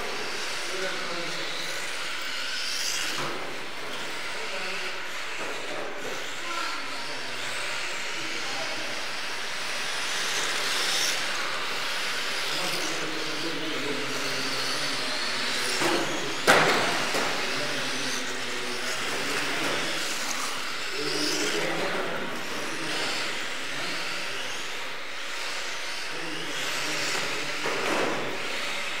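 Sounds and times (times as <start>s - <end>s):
radio-controlled cars motor whine: 0.0s - 29.0s.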